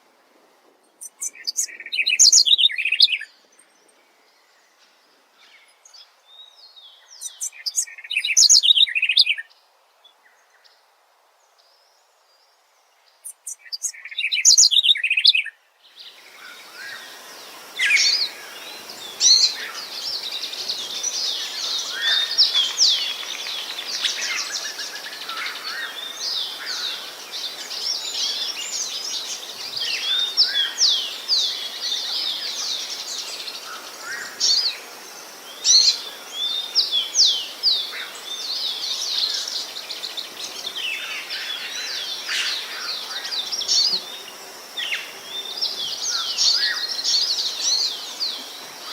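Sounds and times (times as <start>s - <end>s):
background hiss: 0.0s - 48.9s
small birds chirping: 0.8s - 10.8s, 11.4s - 48.9s.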